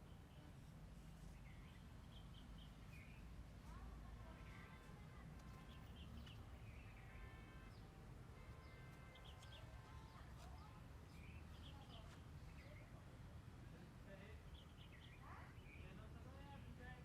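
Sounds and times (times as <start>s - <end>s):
small birds chirping: 0.0s - 13.1s, 14.1s - 16.6s.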